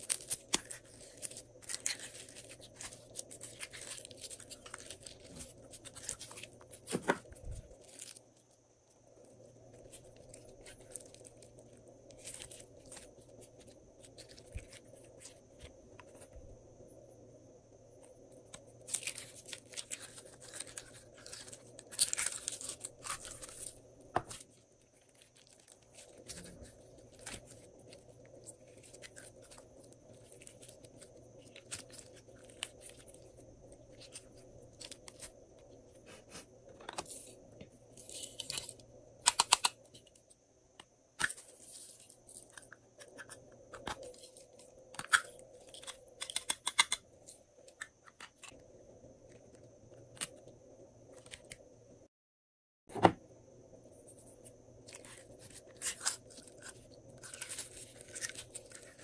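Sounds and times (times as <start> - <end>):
faint steady hum: 0.0 - 52.1, 52.9 - 59.0.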